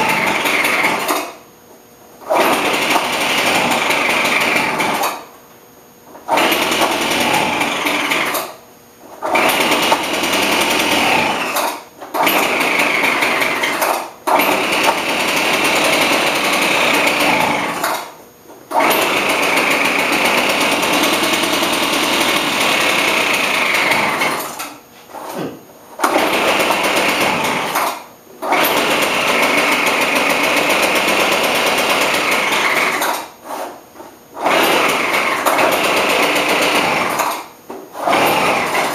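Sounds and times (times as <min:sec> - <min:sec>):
leaf blower engine running erratically: 0:00.0 - 0:01.3, 0:02.2 - 0:05.2, 0:06.3 - 0:08.4, 0:09.2 - 0:18.0, 0:18.7 - 0:24.6, 0:25.4 - 0:33.2, 0:34.4 - 0:37.4, 0:38.0 - 0:38.9.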